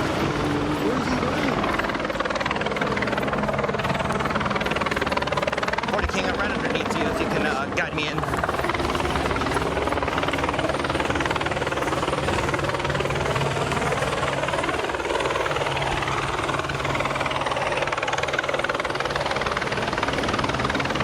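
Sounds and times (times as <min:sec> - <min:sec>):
helicopter rotor chopping: 0:00.0 - 0:21.0.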